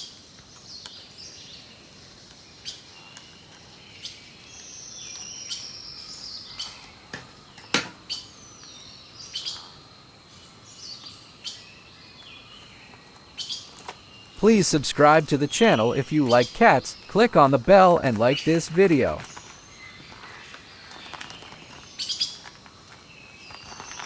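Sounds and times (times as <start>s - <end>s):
birds singing: 0.6s - 14.4s, 15.6s - 22.4s.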